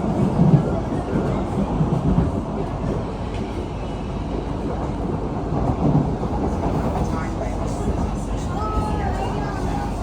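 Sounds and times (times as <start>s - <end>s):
metro train rumbling: 0.0s - 10.0s.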